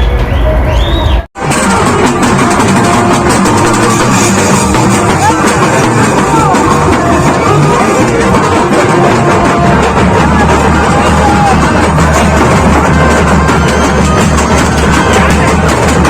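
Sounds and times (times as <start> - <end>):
loud music with driving drums: 1.4 - 16.0.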